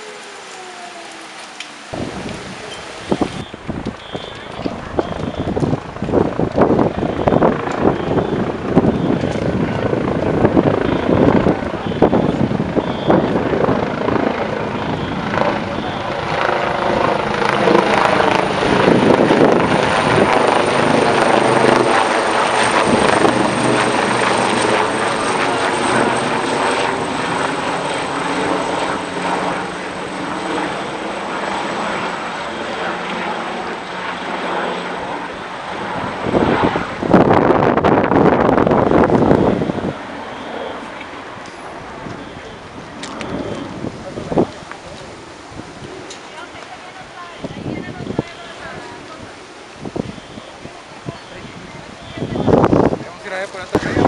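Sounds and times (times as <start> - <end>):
high turbine whine: 0.0 - 54.0
helicopter rotor beats: 1.8 - 54.0.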